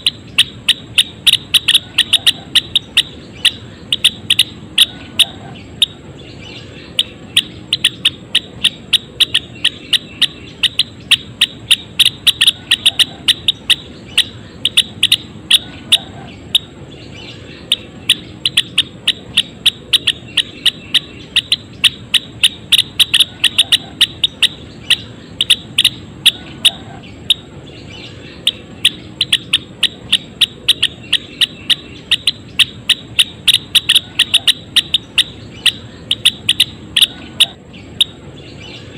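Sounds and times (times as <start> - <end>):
bird chirping rapidly: 0.0 - 38.9
steady low hiss: 0.0 - 38.9.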